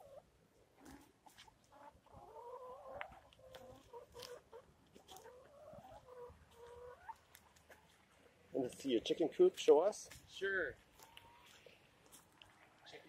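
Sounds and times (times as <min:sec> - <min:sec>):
hens calling: 0:00.0 - 0:08.2, 0:10.3 - 0:13.0.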